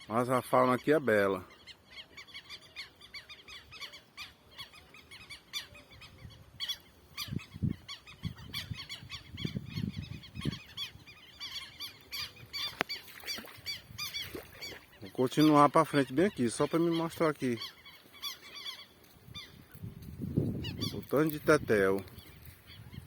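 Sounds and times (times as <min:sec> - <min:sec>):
wetland birds chirping: 0:00.0 - 0:23.0.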